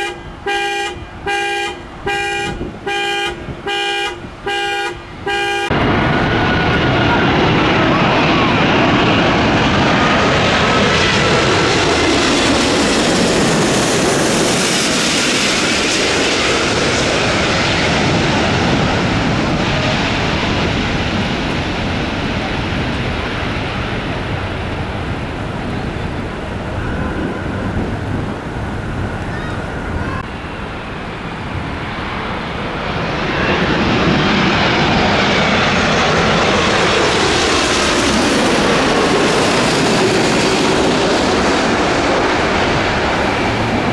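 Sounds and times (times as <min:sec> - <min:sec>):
jet engines of passing aircraft: 0:00.0 - 0:43.9.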